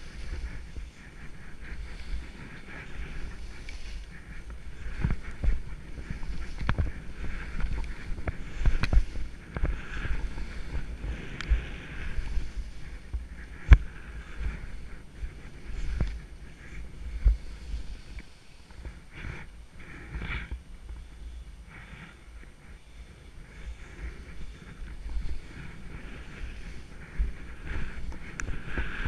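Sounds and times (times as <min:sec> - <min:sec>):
skis sliding over snow: 0:00.0 - 0:29.0
wind rumbling on microphone: 0:00.0 - 0:29.0.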